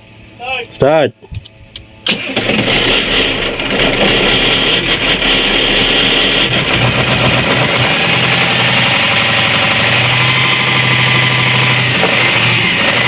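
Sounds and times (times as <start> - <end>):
low engine note: 1.4 - 13.0
diesel engine cranking on starter: 2.0 - 13.0.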